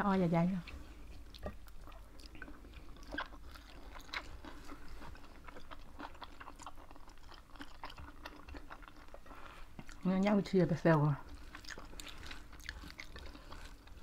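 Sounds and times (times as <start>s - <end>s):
people chewing with mouth clicks: 0.6s - 14.0s.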